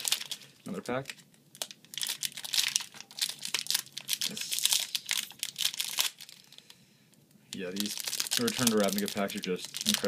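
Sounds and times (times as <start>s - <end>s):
foil wrapper crinkling and tearing: 0.0s - 6.6s, 7.6s - 10.0s.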